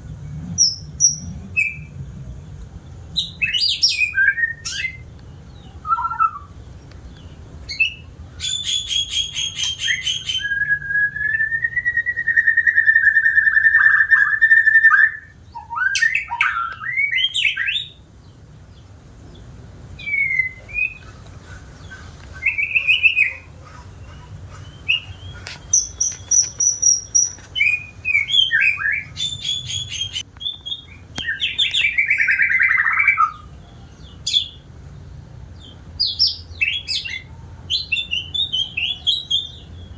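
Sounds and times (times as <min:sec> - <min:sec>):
bird singing trills and whistles: 0:00.6 - 0:01.9, 0:03.2 - 0:06.6, 0:07.2 - 0:18.0, 0:20.0 - 0:34.6, 0:35.6 - 0:39.9.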